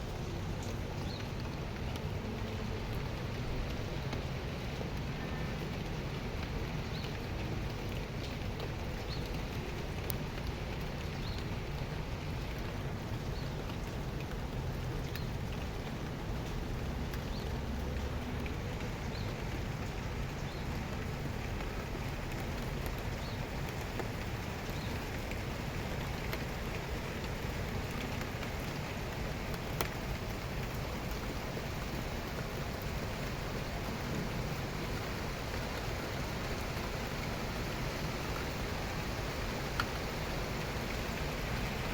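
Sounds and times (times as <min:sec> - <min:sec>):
raindrop ticks: 0:00.0 - 0:41.9
steady rain hiss: 0:00.0 - 0:41.9.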